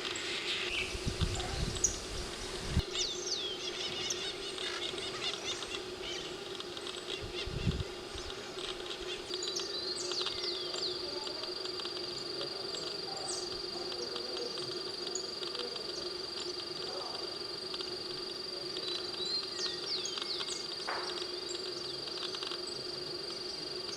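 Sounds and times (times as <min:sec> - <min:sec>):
steady low hum: 0:00.0 - 0:23.9
birds chirping: 0:00.2 - 0:23.9.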